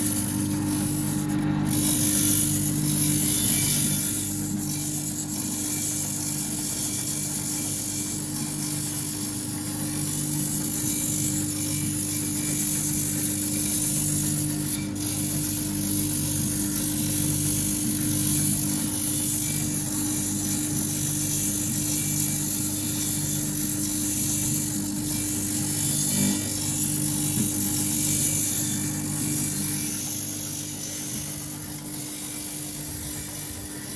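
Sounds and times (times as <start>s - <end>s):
sharpening machine humming: 0.0s - 33.9s.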